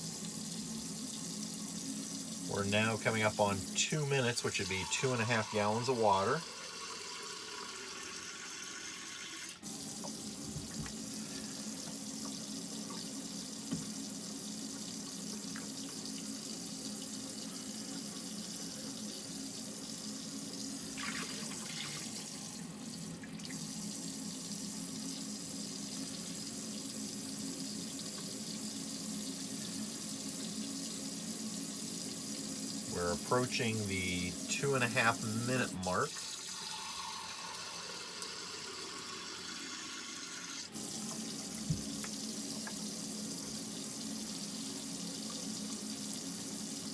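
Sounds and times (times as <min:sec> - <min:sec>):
water running from faucet into sink: 0:00.0 - 0:46.9.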